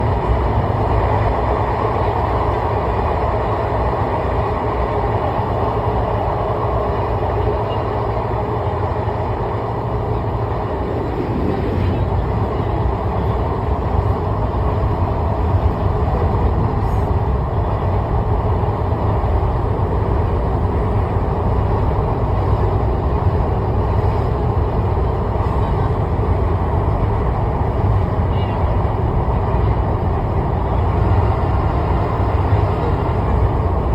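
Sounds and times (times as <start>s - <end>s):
moving vehicle rumble and road noise: 0.0s - 33.9s.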